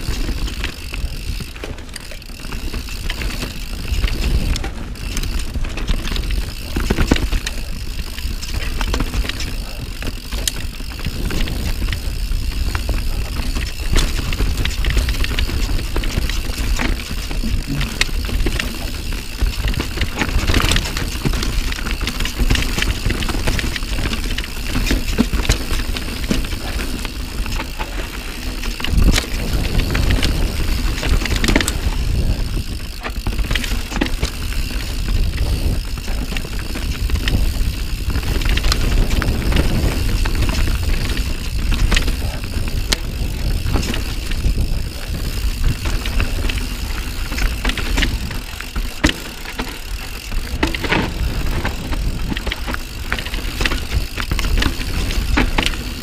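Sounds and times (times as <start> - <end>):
bike knocking and rattling: 0.0 - 56.0
bike tyres rolling over dirt: 0.0 - 56.0.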